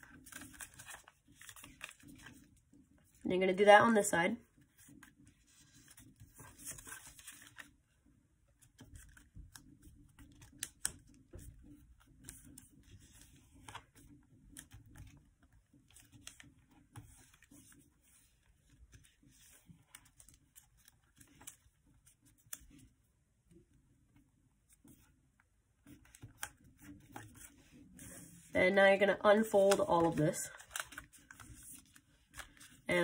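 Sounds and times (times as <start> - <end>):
paper rustling and crinkling: 0.0 - 3.2, 4.5 - 7.8, 8.6 - 22.9, 25.8 - 28.6, 29.4 - 33.0.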